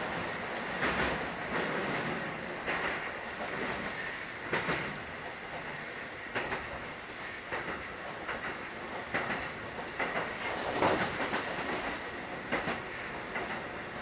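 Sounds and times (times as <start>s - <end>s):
electric train interior rumble: 0.0s - 14.0s.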